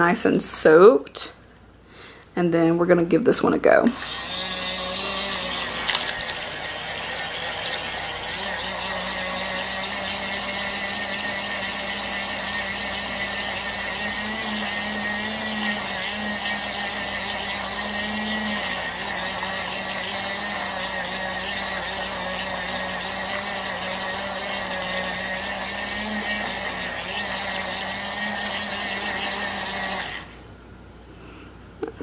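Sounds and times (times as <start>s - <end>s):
small electric motor humming: 4.0s - 30.4s.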